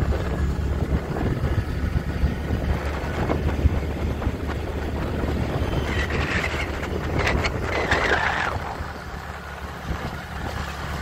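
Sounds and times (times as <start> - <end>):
motor scooter engine running: 0.0 - 11.0
road rumble: 0.0 - 11.0
wind on microphone: 0.0 - 11.0.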